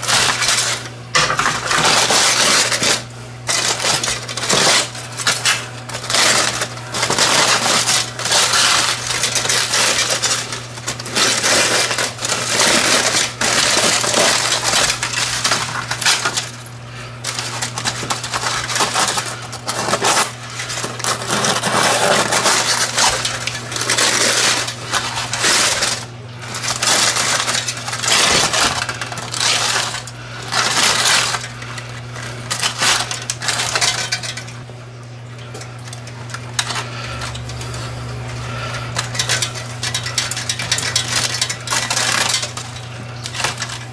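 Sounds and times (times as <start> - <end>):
aluminum foil crinkling: 0.0 - 43.9.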